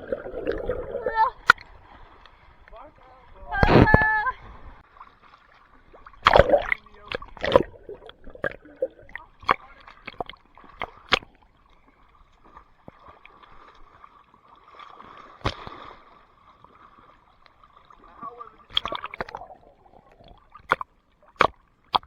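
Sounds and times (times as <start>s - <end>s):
water lapping: 0.0s - 22.0s
water splashing in pool: 0.0s - 22.0s.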